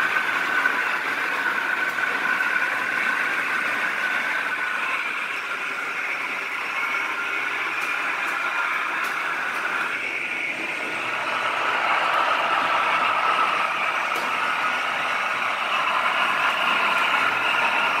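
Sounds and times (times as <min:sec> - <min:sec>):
model trains whirring on rails: 0:00.0 - 0:18.0.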